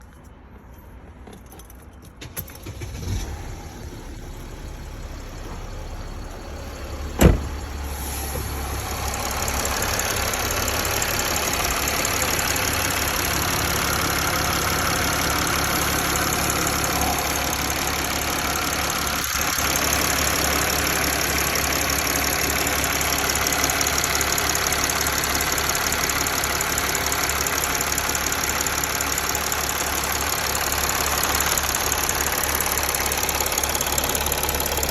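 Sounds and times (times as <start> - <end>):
diesel engine idling with ticking: 2.9 - 34.9.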